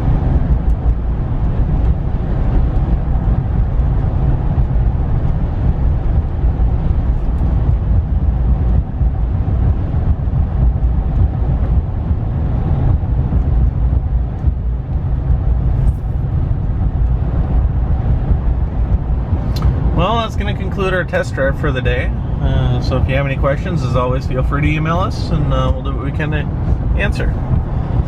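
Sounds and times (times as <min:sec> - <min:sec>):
pickup truck engine and road noise: 0:00.0 - 0:28.0.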